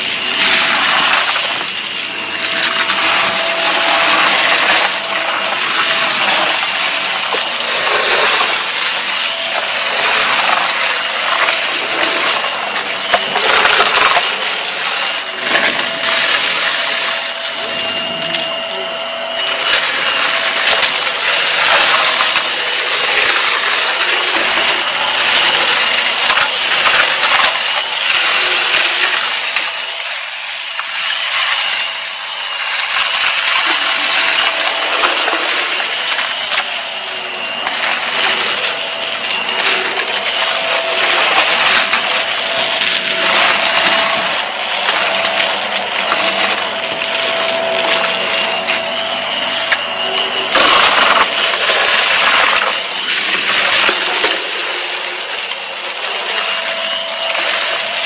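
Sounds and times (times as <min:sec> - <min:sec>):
debris crackling through vacuum: 0:00.0 - 0:18.4, 0:19.3 - 0:57.9
vacuum motor whine: 0:00.0 - 0:58.0.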